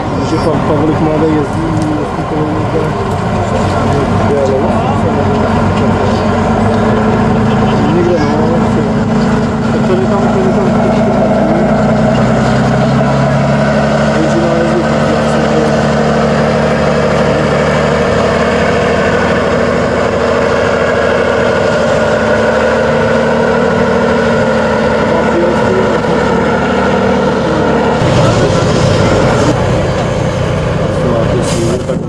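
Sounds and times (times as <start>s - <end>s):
truck diesel engine under load: 0.0s - 32.0s.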